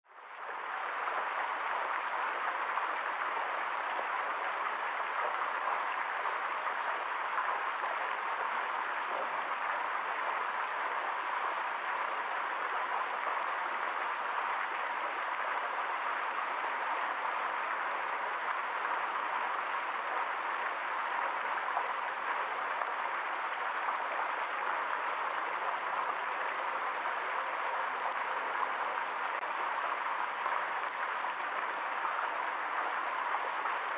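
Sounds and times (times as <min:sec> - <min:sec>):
fountain water splashing into basin: 0:00.2 - 0:33.9.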